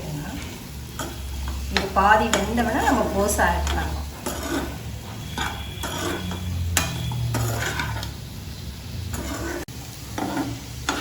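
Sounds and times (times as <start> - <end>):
spatula scraping vegetables in pan: 0.2 - 11.0.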